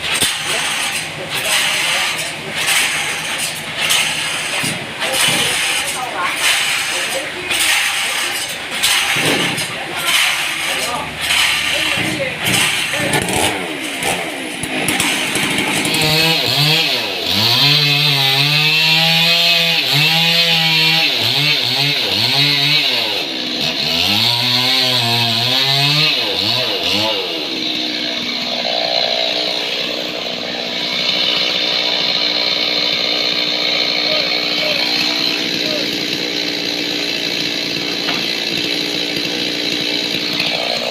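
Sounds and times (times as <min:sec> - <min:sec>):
saw blade cutting log: 0:00.0 - 0:40.9
sawmill engine under load: 0:00.0 - 0:40.9.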